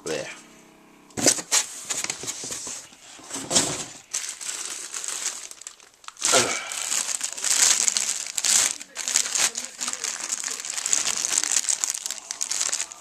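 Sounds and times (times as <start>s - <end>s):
packing paper rustling and crinkling: 1.2s - 13.0s.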